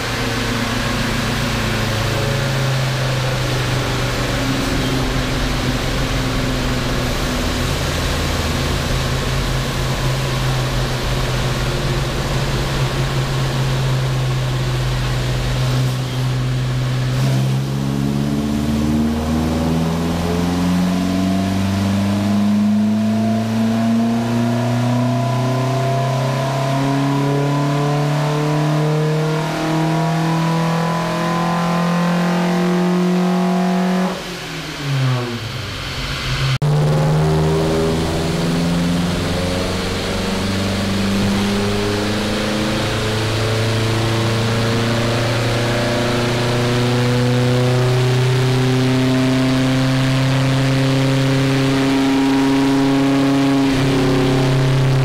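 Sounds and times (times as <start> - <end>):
car engine revving on dyno: 0.0 - 55.0.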